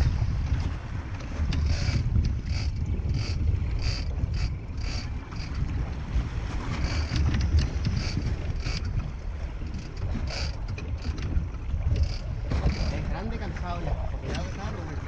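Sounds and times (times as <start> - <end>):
boat engine rumbling: 0.0 - 15.0
wind buffeting microphone: 0.0 - 15.0.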